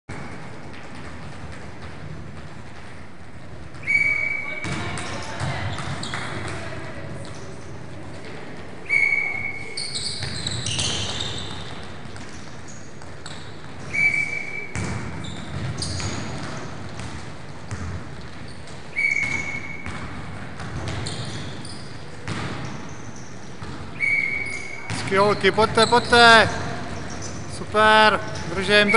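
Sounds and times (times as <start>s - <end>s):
shoes squeaking on sports hall floor: 0.1s - 28.9s.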